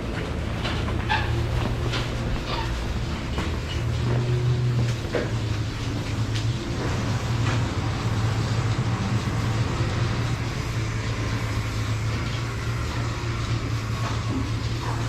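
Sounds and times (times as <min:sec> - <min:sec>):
machinery low hum: 0:00.0 - 0:15.0
steady hiss: 0:01.3 - 0:15.0.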